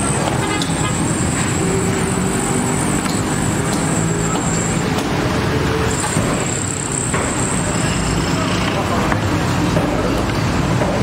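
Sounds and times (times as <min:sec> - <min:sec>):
road traffic din: 0:00.0 - 0:11.0.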